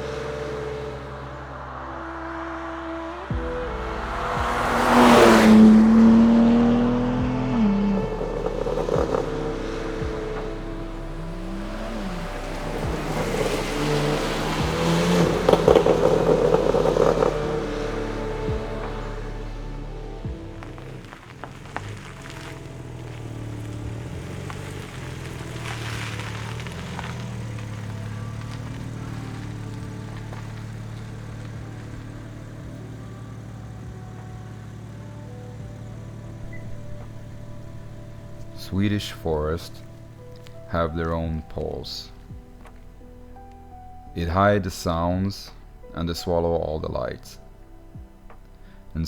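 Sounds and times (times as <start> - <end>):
car engine running: 3.3 - 49.0.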